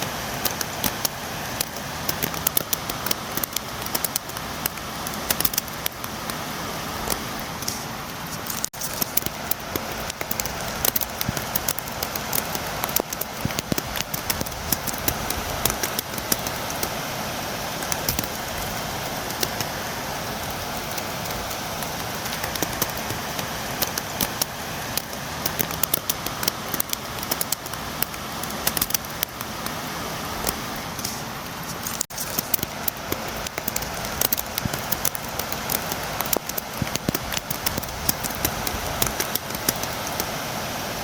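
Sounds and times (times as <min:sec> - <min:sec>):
steady rain: 0:00.0 - 0:41.0
raindrops tapping on window: 0:00.3 - 0:06.3, 0:08.6 - 0:17.0, 0:17.8 - 0:29.8, 0:31.9 - 0:40.3.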